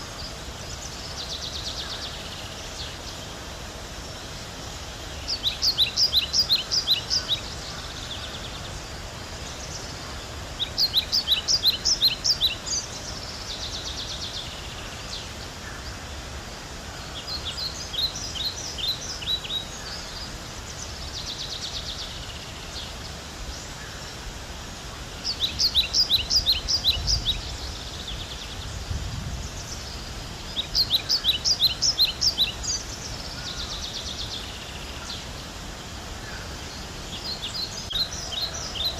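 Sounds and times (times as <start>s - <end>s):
outdoor background hiss: 0.0s - 38.9s
songbird singing: 0.0s - 38.9s.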